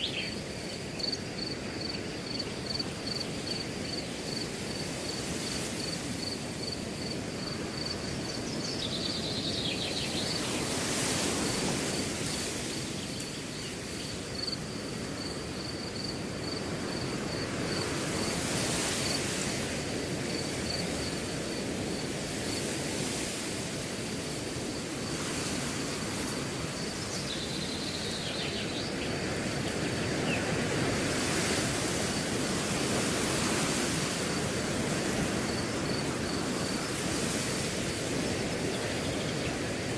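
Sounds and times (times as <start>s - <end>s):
cricket chirping: 0.0s - 39.9s
wind rushing through grass: 0.0s - 39.9s.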